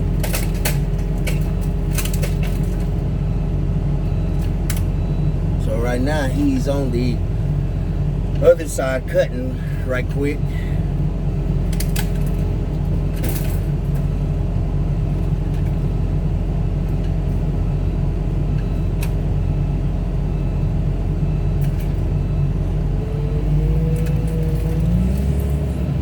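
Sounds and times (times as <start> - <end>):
heavy machine engine rumbling: 0.0 - 26.0.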